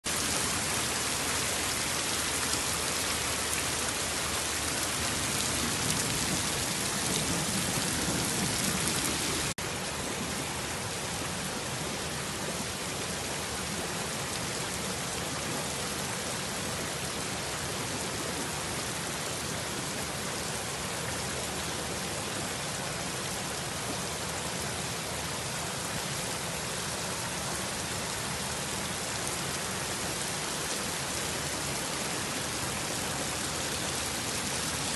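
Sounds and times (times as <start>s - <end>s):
torrential rain on road: 0.1s - 34.9s.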